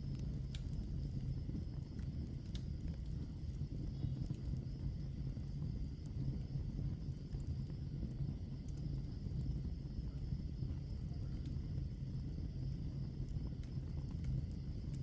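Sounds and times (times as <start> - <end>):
fire flames rumbling: 0.0 - 15.0.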